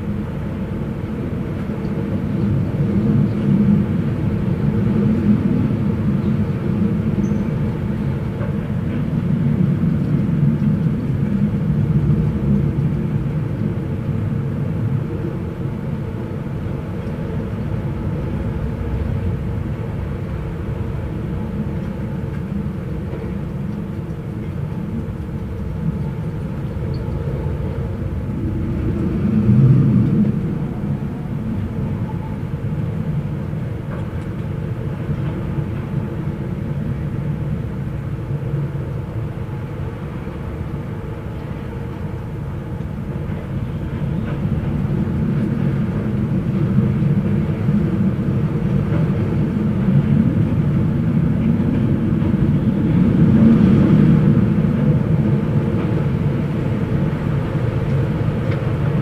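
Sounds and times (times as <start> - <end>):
wind blowing: 0.0 - 59.0.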